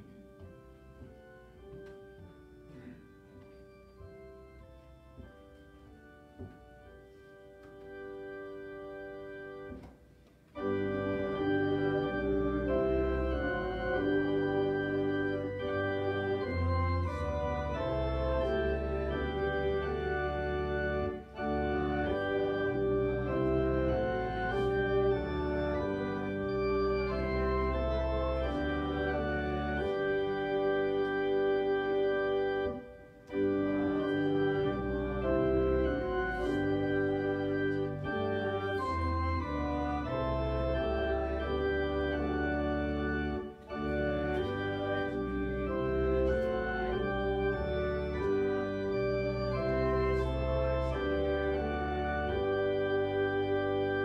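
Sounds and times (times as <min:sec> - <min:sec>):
church organ playing a hymn: 0:00.0 - 0:54.0.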